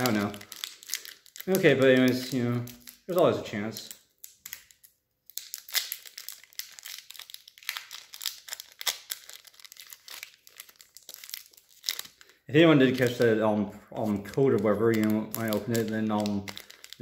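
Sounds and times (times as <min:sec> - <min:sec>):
foil wrapper tearing and crinkling: 0:00.0 - 0:13.4, 0:14.0 - 0:17.0.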